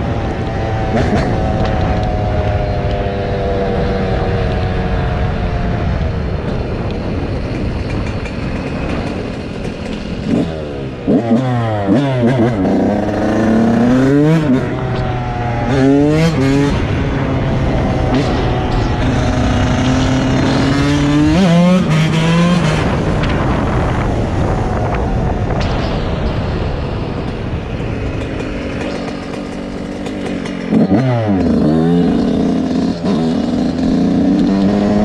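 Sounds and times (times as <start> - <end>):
dirt bike engines revving: 0.0 - 4.4, 6.4 - 26.0, 26.7 - 35.0.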